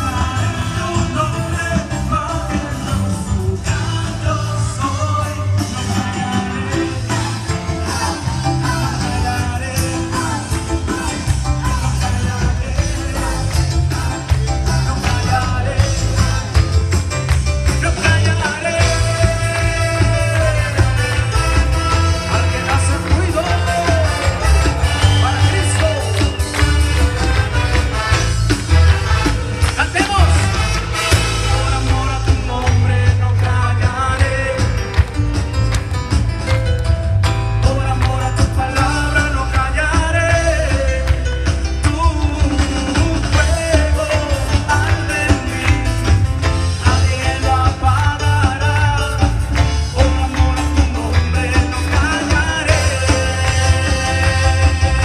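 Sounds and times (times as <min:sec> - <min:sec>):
person singing: 0:00.0 - 0:28.1, 0:29.2 - 0:35.3, 0:37.5 - 0:55.0
band playing rock music: 0:00.0 - 0:55.0.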